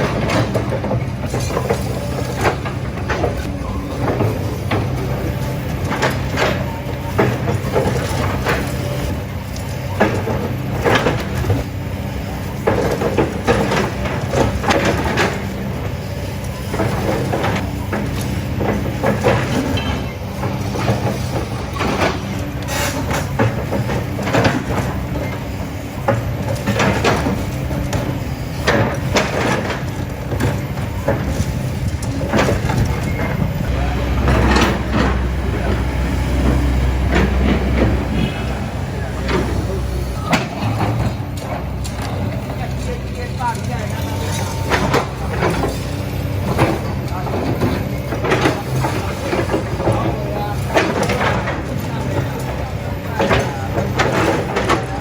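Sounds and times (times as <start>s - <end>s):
engine hum: 0.0s - 55.0s.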